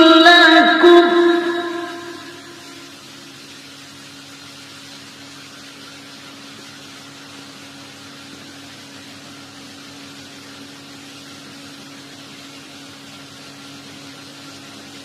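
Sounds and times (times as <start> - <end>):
even hiss: 0.0 - 15.0
steady hum: 0.0 - 15.0.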